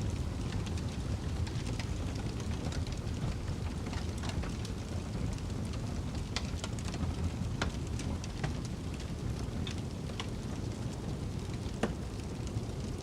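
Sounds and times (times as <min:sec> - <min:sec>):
low rumble of wind: 0:00.0 - 0:13.0
wood fire crackling and popping: 0:00.0 - 0:13.0.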